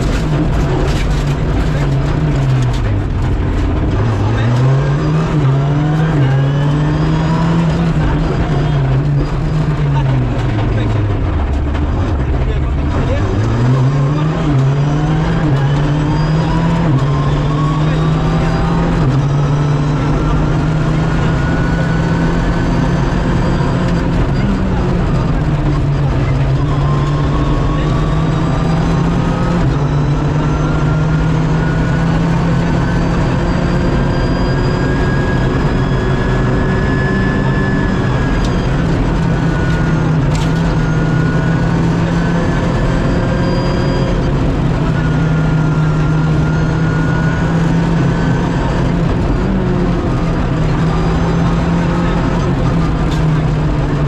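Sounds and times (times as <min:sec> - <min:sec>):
rally car engine revving high: 0:00.0 - 0:54.0
road noise: 0:00.0 - 0:54.0.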